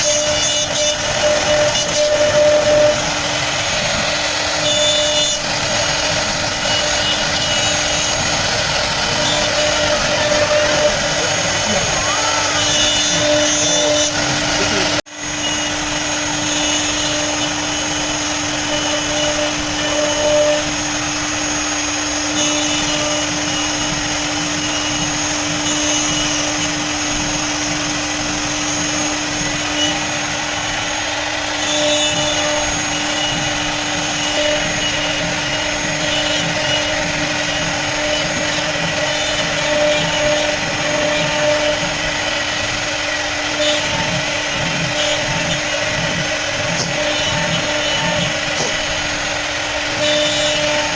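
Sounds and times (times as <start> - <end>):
router spindle whine cutting wood: 0.0 - 50.9.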